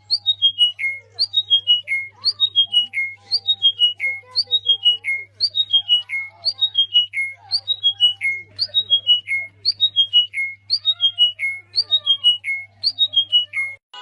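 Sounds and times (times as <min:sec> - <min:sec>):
birds chirping and chattering: 0:00.0 - 0:13.8.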